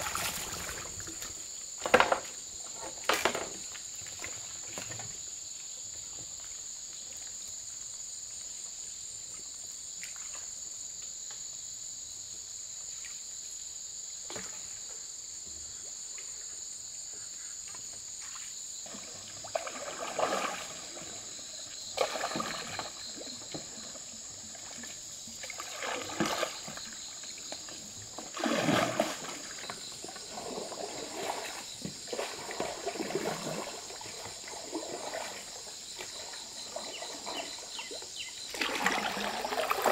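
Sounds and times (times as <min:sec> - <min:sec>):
water splashing and sloshing: 0:00.0 - 0:10.7, 0:17.1 - 0:39.9
high-pitched insect chorus: 0:00.0 - 0:39.9.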